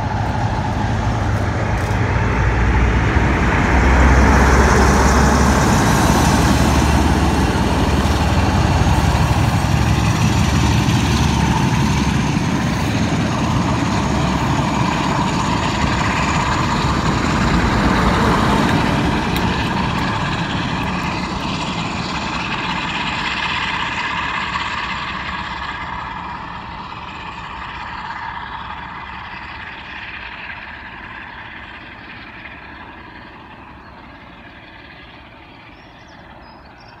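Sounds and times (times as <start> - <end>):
diesel locomotive engine working: 0.0 - 37.0
steady high whine: 0.0 - 37.0.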